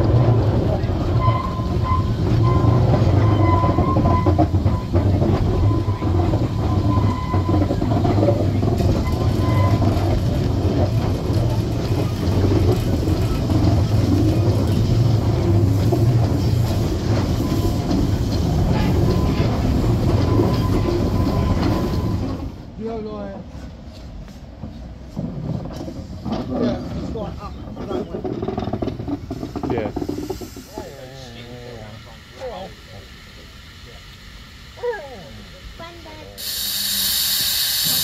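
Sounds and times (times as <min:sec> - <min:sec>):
steam locomotive rumble and rattle: 0:00.0 - 0:38.0.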